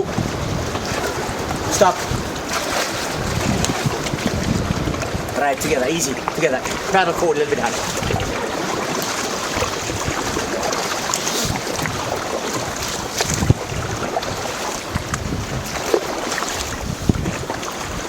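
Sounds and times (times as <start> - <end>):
paddles knocking and splashing: 0.0 - 18.0
river water rushing: 0.0 - 18.0.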